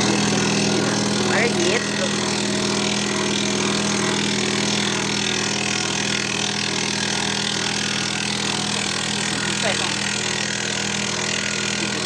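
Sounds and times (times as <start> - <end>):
cutting machine motor hum: 0.0 - 12.0.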